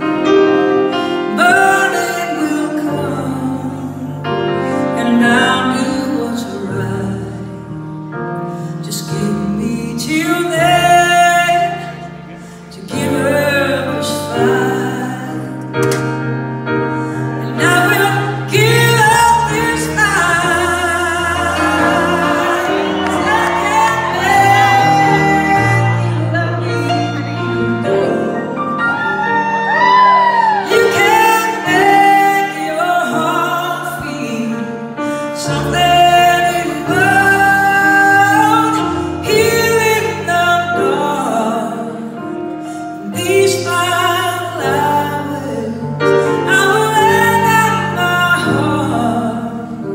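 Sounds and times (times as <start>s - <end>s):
woman singing: 0.2s - 7.8s, 8.8s - 12.1s, 12.7s - 15.7s, 17.3s - 42.2s, 43.0s - 49.9s.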